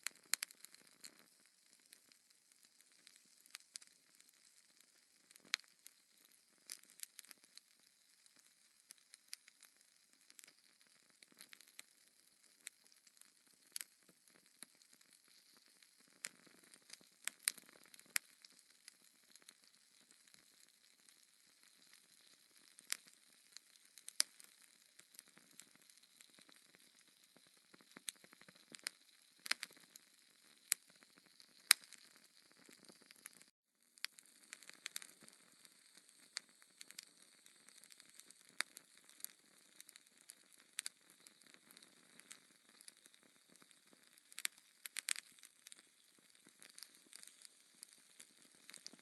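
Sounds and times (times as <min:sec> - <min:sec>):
wood fire crackling: 0:00.0 - 0:09.6, 0:10.3 - 0:11.8, 0:12.4 - 0:49.0.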